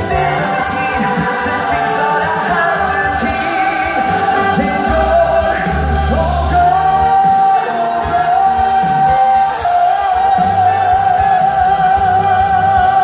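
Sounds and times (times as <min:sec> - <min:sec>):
band playing: 0:00.0 - 0:13.0
person singing: 0:00.0 - 0:13.0.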